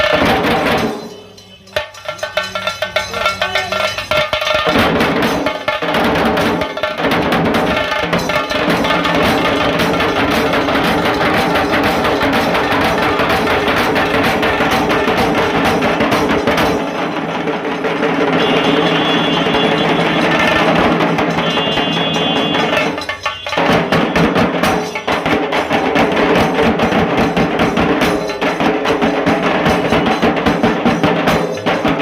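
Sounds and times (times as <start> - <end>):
dhol barrel drums: 0.0 - 32.0
stick-beaten tasa drums: 0.0 - 32.0.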